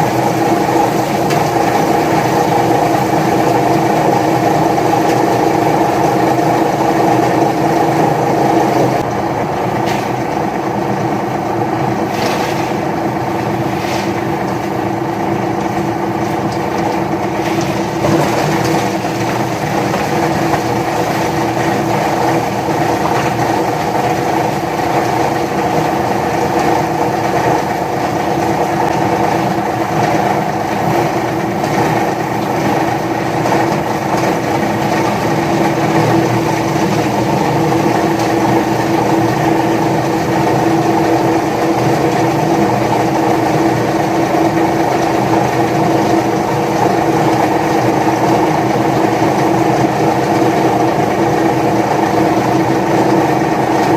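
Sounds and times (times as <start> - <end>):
paper shredder running: 0.0 - 53.9.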